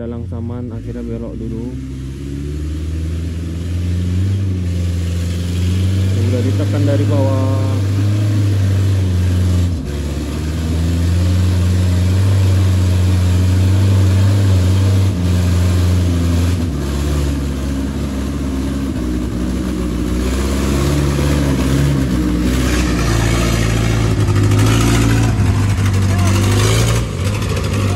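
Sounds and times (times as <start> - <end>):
truck engine labouring: 0.0 - 27.9.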